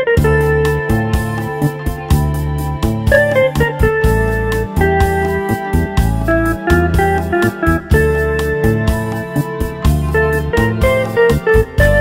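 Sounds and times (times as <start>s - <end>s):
slow instrumental ballad: 0.0s - 12.0s.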